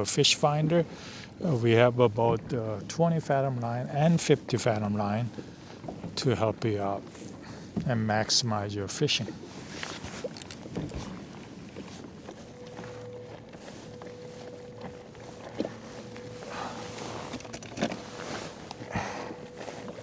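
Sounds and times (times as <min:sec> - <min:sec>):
faint steady hum: 0:00.0 - 0:20.0
water washing against kayak hull: 0:00.0 - 0:20.0.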